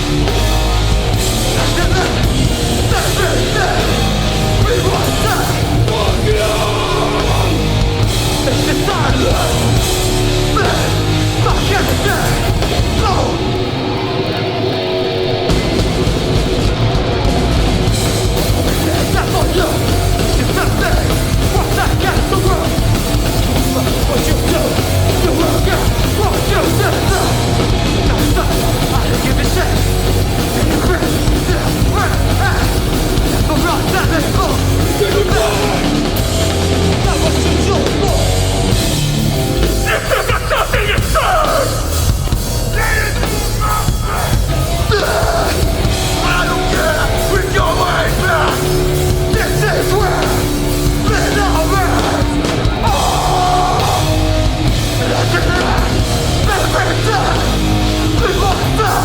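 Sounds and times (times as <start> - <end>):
distorted guitars: 0.0 - 59.0
hardcore band playing: 0.0 - 59.0.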